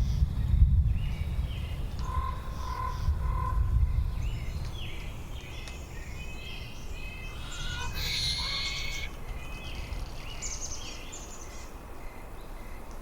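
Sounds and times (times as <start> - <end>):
birds chirping: 1.0 - 13.0.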